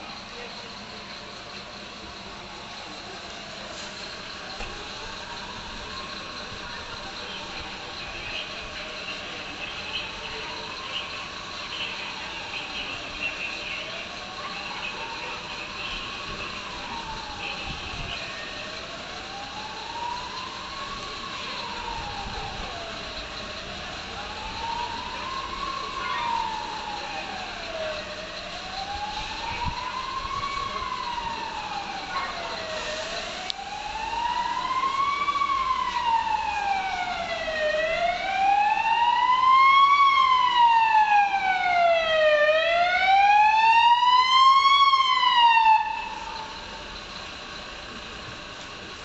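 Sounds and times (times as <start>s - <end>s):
emergency vehicle siren wailing: 0.0s - 49.0s.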